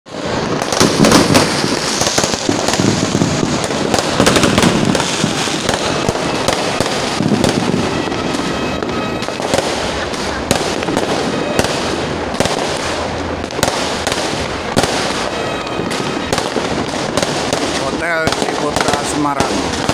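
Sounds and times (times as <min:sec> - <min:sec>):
fireworks bangs and crackling: 0:00.1 - 0:19.9.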